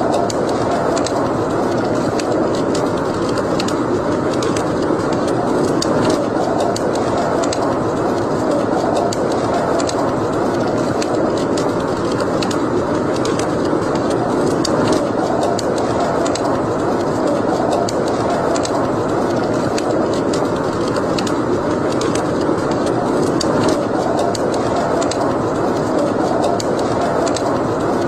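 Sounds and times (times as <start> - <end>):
fire flames rushing: 0.0 - 28.0
wood fire crackling and popping: 0.0 - 28.0.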